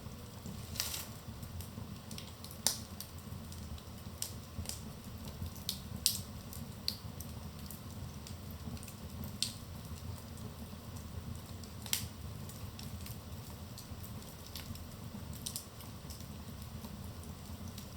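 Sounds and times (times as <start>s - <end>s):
fire popping and snapping: 0.0s - 17.9s
low rumble of burning fire: 0.0s - 17.9s
wood fire crackling: 0.0s - 17.9s.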